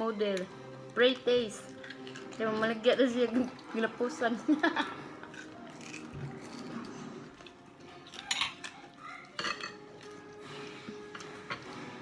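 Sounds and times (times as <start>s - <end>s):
utensils clinking on plates: 1.1s - 12.0s.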